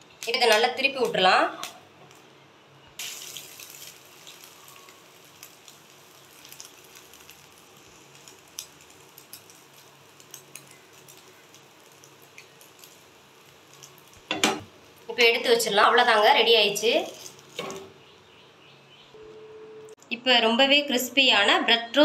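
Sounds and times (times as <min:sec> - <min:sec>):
bread frying in oil: 0:00.0 - 0:18.6.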